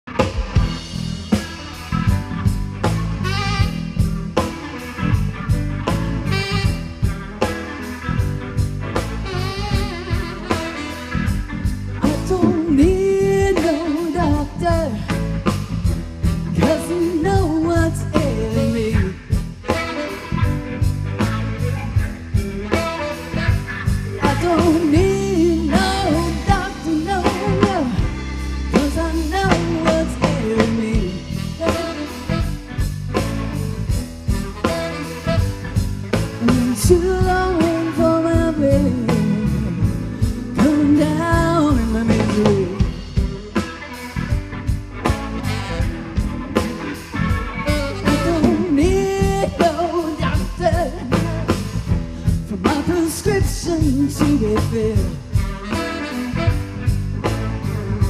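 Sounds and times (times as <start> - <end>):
live blues-rock band: 0.0 - 58.0
bending lead melody: 0.1 - 58.0.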